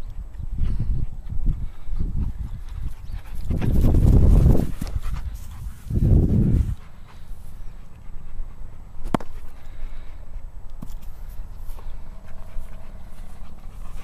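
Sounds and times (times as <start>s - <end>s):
dog panting: 0.8s - 10.3s, 11.6s - 14.0s.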